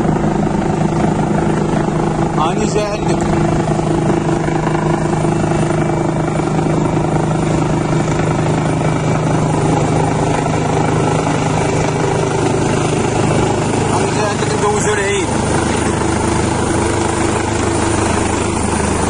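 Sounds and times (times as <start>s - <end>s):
helicopter engine hum: 0.0s - 19.0s
helicopter rotor beat: 0.0s - 19.0s.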